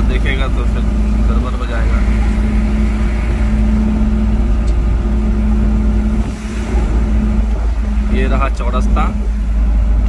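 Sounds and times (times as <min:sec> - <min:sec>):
car engine drone: 0:00.0 - 0:10.0
heavy low road rumble: 0:00.0 - 0:10.0.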